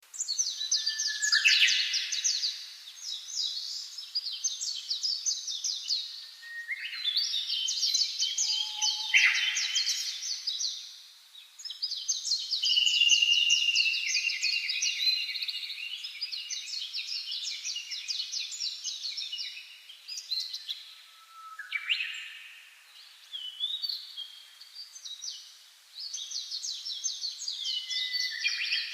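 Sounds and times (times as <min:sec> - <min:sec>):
birds chirping and trilling: 0:00.1 - 0:28.9.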